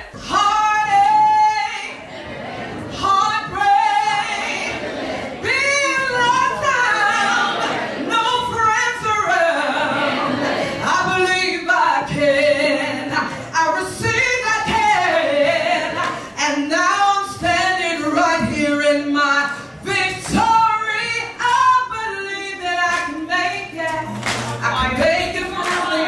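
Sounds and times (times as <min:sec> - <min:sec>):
woman singing with vibrato: 0:00.0 - 0:26.0.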